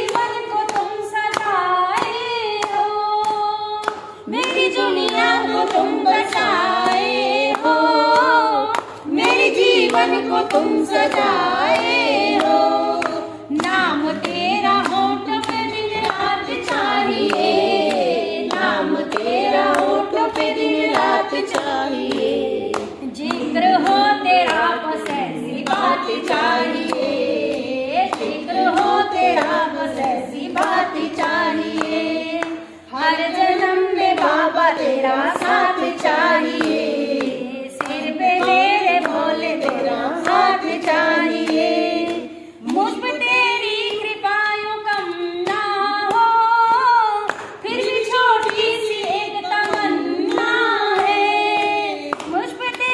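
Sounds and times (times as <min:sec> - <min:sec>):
hand-clapping beat: 0:00.0 - 0:52.9
women singing devotional song: 0:00.0 - 0:52.9.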